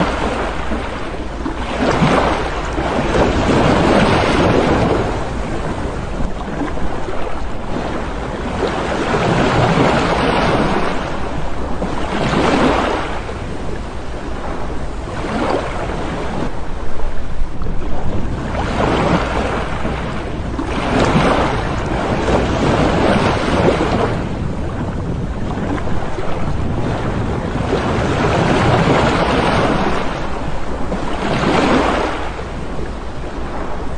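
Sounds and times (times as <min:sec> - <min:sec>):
waves breaking on shore: 0:00.0 - 0:33.9
wind rumbling on microphone: 0:00.0 - 0:33.9.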